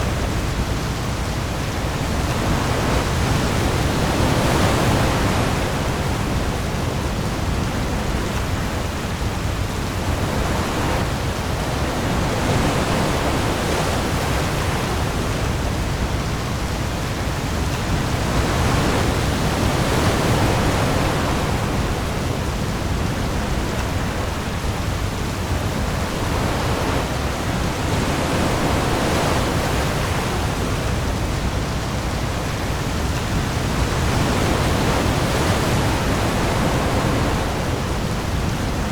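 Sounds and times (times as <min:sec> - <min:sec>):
heavy rain on sea: 0:00.0 - 0:38.9.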